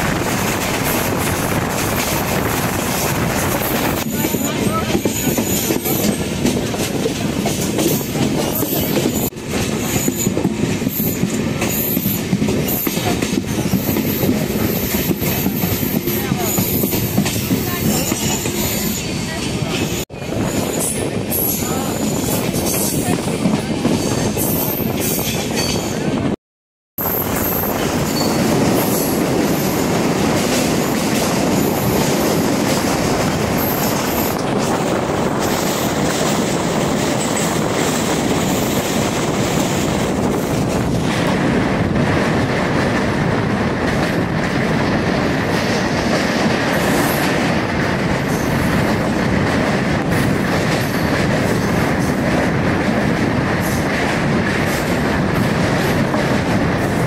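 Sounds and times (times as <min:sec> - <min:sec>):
train wheels on bridge rails: 0:00.0 - 0:26.4, 0:27.0 - 0:57.0.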